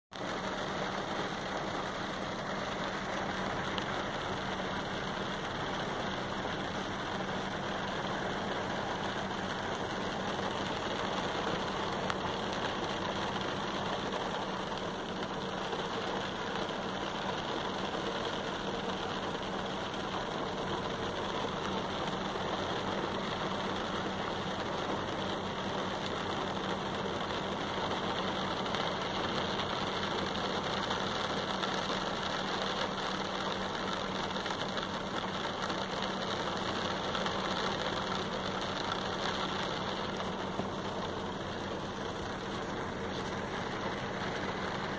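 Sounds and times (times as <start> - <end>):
rain on glass sunroof: 0.1 - 44.9.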